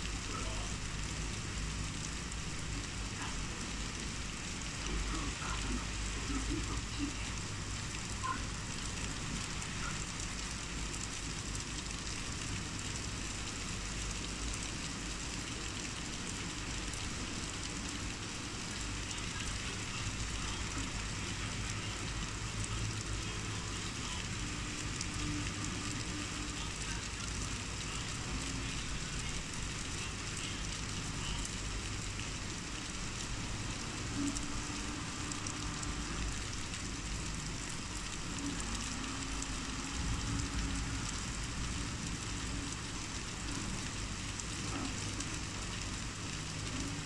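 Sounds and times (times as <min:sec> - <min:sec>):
heavy rain on roofs and pavement: 0:00.0 - 0:47.0.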